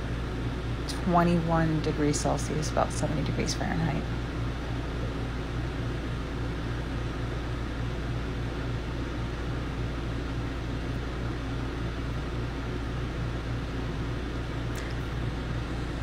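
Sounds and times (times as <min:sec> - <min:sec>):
air conditioner hum: 0:00.0 - 0:16.0
fan hiss: 0:00.0 - 0:16.0.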